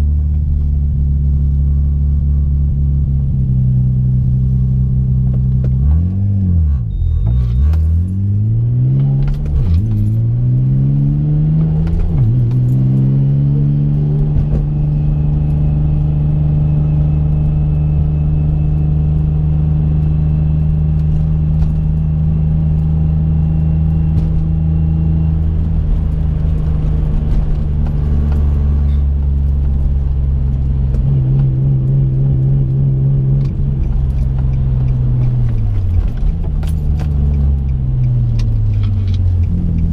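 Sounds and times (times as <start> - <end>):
car engine revving and cruising: 0.0 - 39.9.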